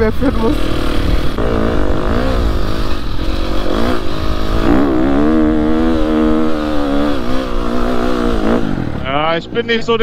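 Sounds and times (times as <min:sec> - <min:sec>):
low rumble: 0:00.0 - 0:10.0
motorcycle engine revving: 0:00.0 - 0:10.0.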